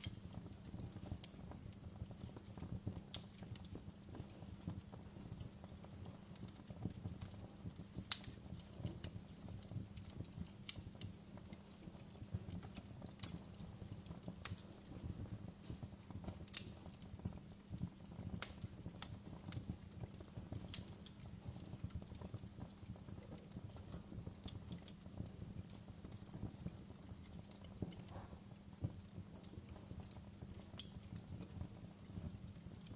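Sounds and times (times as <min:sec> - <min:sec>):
low rumble of flames: 0:00.0 - 0:32.9
wood fire crackling: 0:00.0 - 0:32.9.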